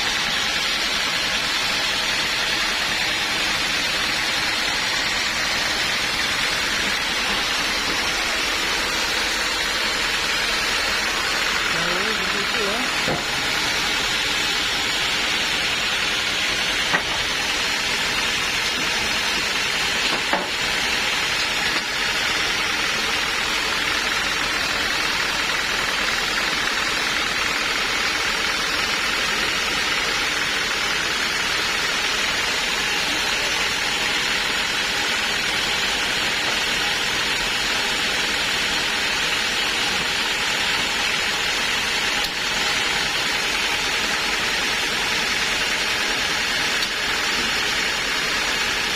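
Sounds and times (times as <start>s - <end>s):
sawmill saw running: 0.0s - 48.9s.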